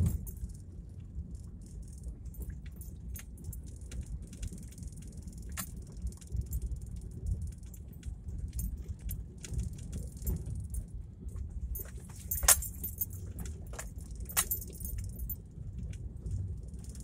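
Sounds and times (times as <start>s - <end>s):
tyre and road rumble: 0.0s - 6.5s, 7.1s - 17.0s
rattles and clicks inside car: 0.0s - 17.0s.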